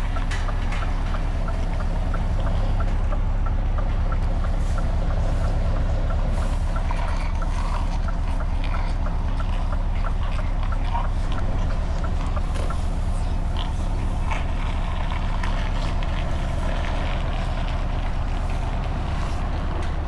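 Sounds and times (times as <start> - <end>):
faint regular ticking: 0.0 - 19.2
truck diesel engine running: 0.0 - 20.0.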